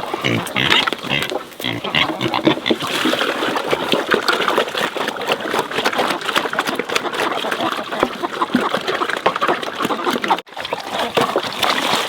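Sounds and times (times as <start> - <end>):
pigs grunting: 0.0 - 11.4.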